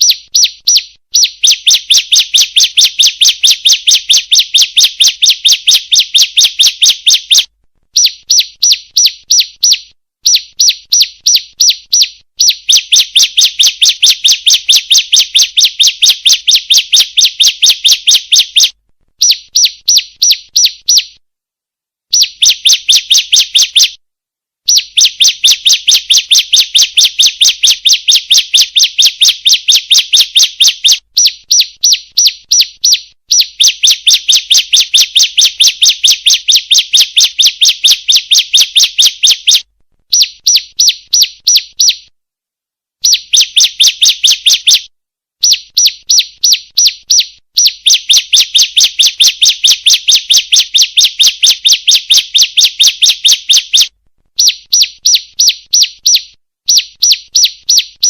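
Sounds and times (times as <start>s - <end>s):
bird chirping sharply: 0.0s - 21.2s, 22.1s - 24.0s, 24.7s - 42.1s, 45.4s - 58.0s.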